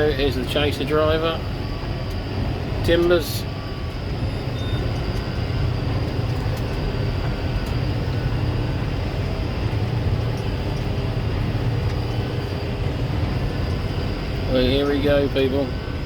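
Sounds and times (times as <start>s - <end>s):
combine harvester droning: 0.0s - 16.0s.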